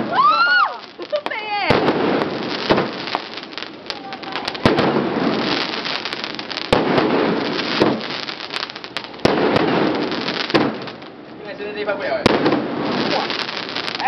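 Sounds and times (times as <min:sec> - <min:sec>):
crackling hiss of sparks: 0:00.0 - 0:14.0
fireworks bangs: 0:00.0 - 0:14.0.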